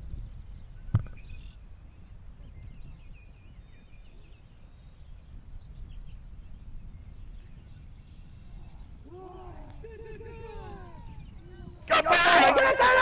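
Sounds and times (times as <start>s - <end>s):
wind rumbling on microphone: 0.0s - 13.0s
faint bird chirps: 0.3s - 11.9s.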